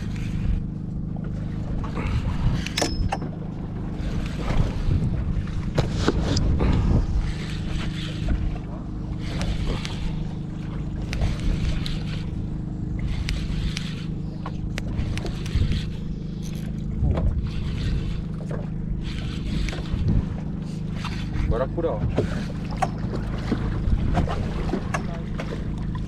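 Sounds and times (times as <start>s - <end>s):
boat motor droning: 0.0s - 26.0s
washes of water or wind: 0.0s - 26.0s.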